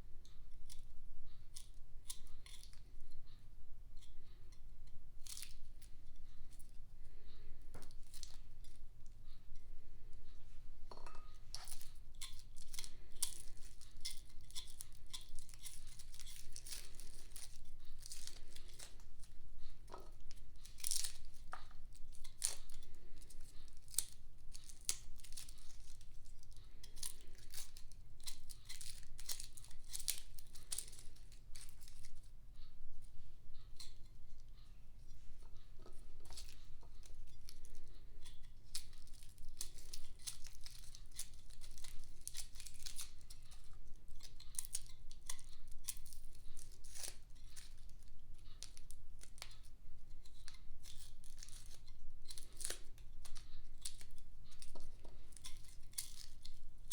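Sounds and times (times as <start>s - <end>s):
garlic skins crinkling and tearing: 1.5s - 2.8s, 5.2s - 8.8s, 10.4s - 32.3s, 33.7s - 34.6s, 35.4s - 56.9s.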